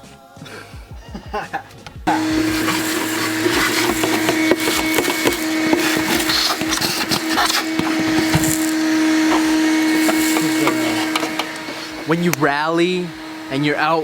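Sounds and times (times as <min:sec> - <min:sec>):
electric motor humming: 0:02.1 - 0:14.0
scrubbing and rubbing: 0:02.1 - 0:14.0.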